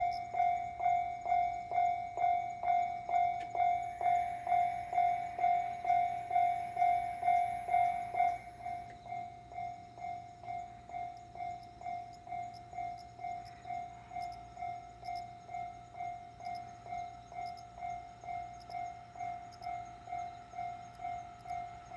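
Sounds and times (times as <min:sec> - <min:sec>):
level-crossing warning bell ringing: 0:00.0 - 0:21.9.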